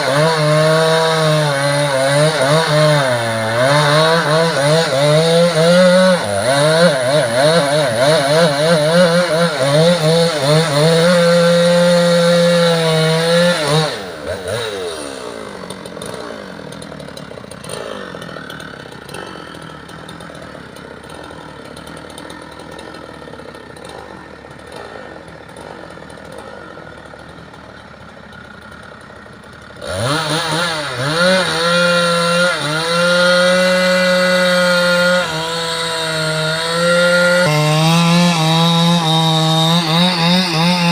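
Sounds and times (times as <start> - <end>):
chainsaw cutting logs: 0.0 - 40.9
chainsaw idling: 0.0 - 40.9.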